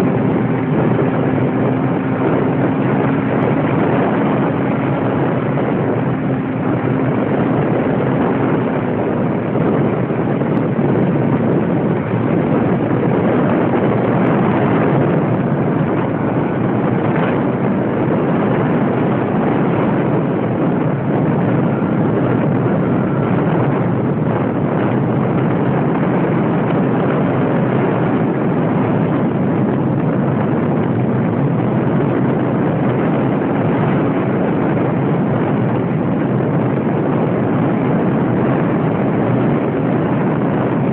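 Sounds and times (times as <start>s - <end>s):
loud rushing noise: 0.0s - 40.9s.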